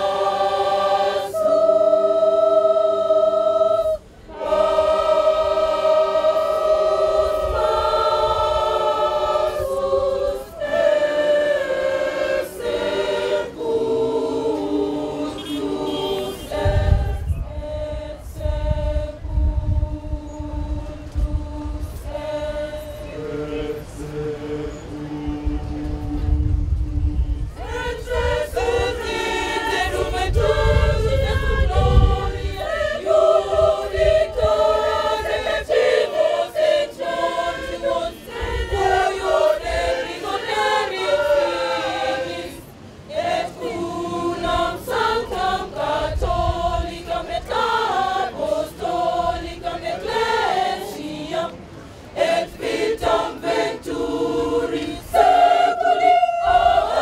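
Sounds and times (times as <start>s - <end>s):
women's choir singing a hymn: 0.0s - 57.0s.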